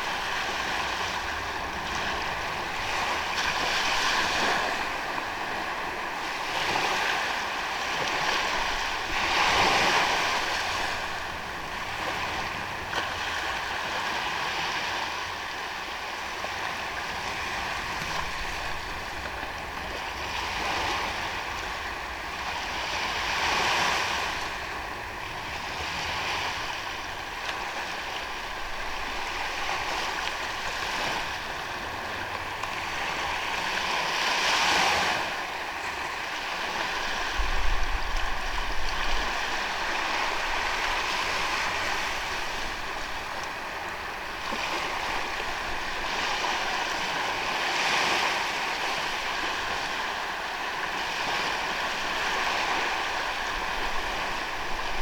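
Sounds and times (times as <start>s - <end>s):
ocean waves on sandy beach: 0.0s - 55.0s.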